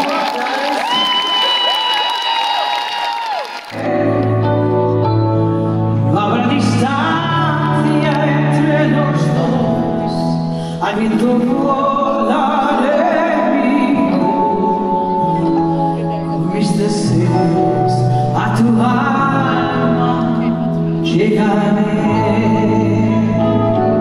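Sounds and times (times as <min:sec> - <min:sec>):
live band music: 0:03.7 - 0:24.0
person singing: 0:03.7 - 0:24.0.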